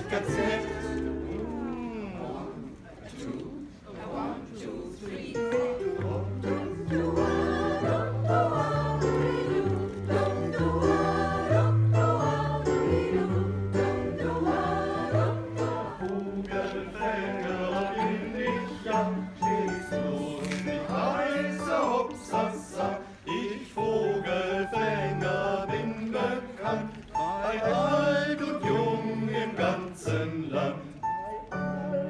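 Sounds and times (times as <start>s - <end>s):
group of people singing: 0.0s - 32.0s.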